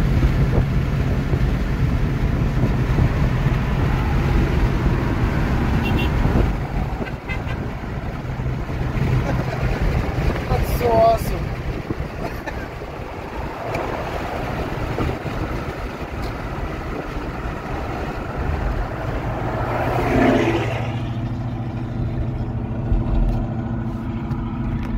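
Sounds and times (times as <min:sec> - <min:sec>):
loud car exhaust passing: 0:00.0 - 0:10.5, 0:11.4 - 0:24.9
road and wind noise in car: 0:00.0 - 0:24.9.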